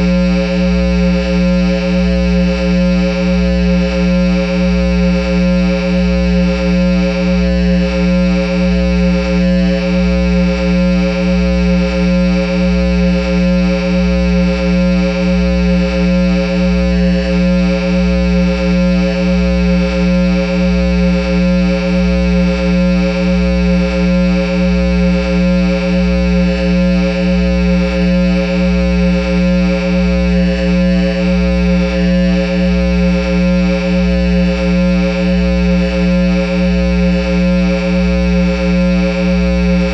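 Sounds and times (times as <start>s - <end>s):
guitar amplifier electrical hum: 0.0s - 39.9s.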